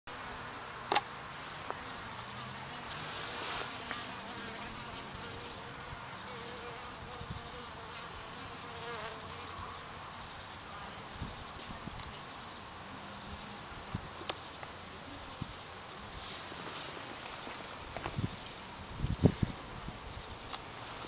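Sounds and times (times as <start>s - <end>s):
bees buzzing: 0.1s - 21.0s.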